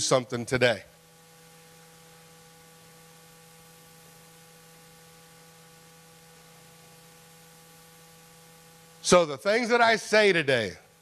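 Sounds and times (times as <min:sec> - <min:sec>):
electrical hum: 0:00.0 - 0:11.0
faint hiss: 0:00.0 - 0:11.0.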